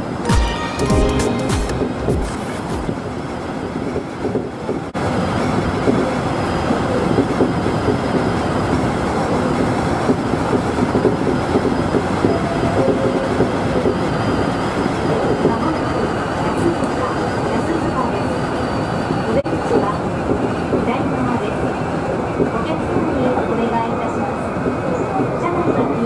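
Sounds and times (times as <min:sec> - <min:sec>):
train wheels rumbling on rails: 0:01.2 - 0:26.0.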